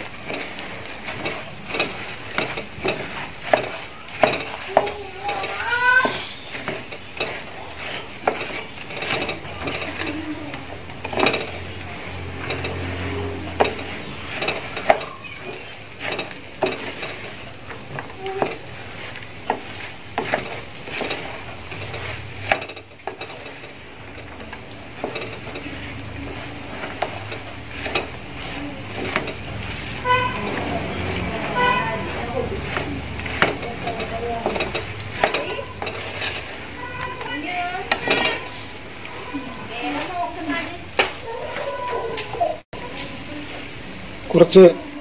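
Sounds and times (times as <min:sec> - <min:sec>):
spatula scraping a pan: 0:00.0 - 0:43.8
sizzling: 0:00.0 - 0:45.0.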